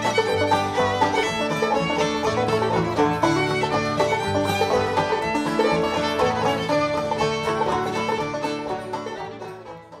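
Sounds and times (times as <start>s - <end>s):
upbeat string-band music: 0.0s - 10.0s.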